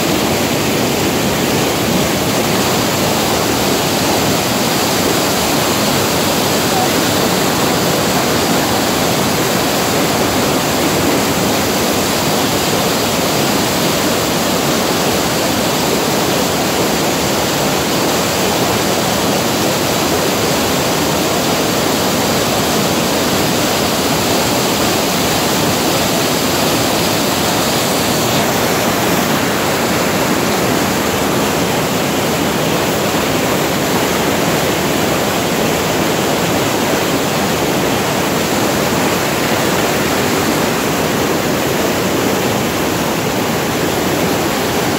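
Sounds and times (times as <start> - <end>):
river rapids rushing over boulders: 0.0 - 44.9.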